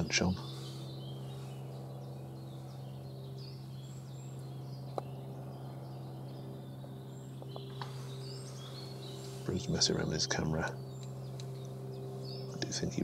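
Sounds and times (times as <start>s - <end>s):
birds chirping faintly: 0.0s - 13.0s
steady low hum: 0.0s - 13.0s.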